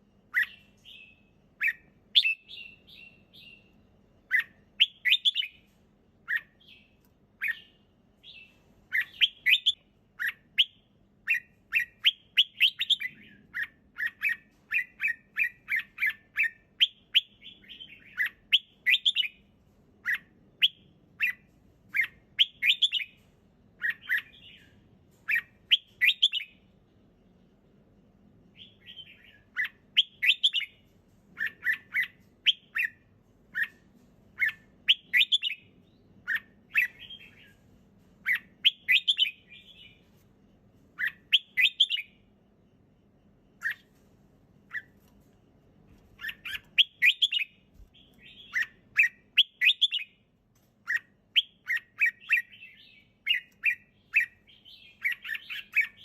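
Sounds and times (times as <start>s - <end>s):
bird whistling song: 0.3s - 19.4s, 20.0s - 23.2s, 23.8s - 26.6s, 28.5s - 30.8s, 31.4s - 33.8s, 34.4s - 37.6s, 38.2s - 40.1s, 41.0s - 42.3s, 43.6s - 43.9s, 44.7s - 45.0s, 46.2s - 50.2s, 50.8s - 56.0s.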